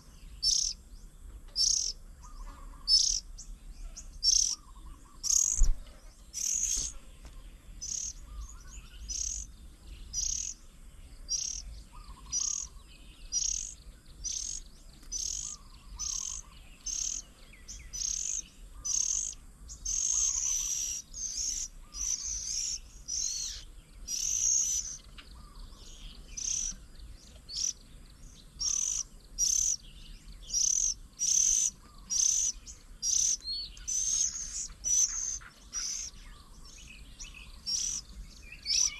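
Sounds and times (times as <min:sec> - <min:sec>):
faint lower bird chirps: 0:00.0 - 0:38.9
bird harsh high calls: 0:00.4 - 0:00.8, 0:01.6 - 0:10.6, 0:11.3 - 0:26.8, 0:27.5 - 0:27.8, 0:28.6 - 0:29.8, 0:30.5 - 0:38.9.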